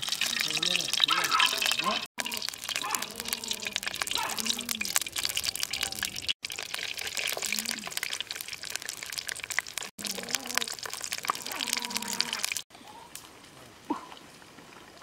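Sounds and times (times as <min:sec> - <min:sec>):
food frying in hot oil: 0:00.0 - 0:12.6.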